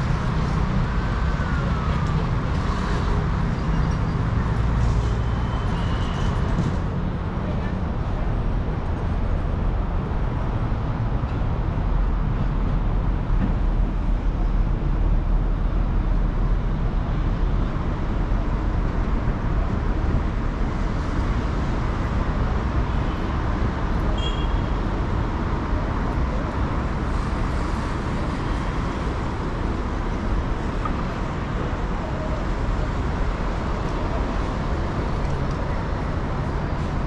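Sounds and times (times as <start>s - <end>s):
city street traffic rumble: 0.0s - 37.0s.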